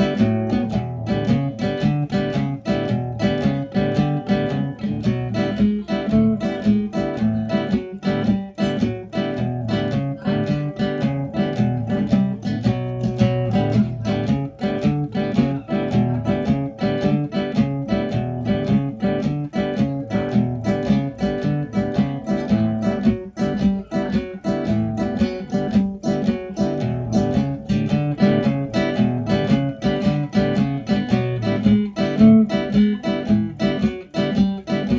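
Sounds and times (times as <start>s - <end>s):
nylon-string guitar playing: 0.0s - 34.9s.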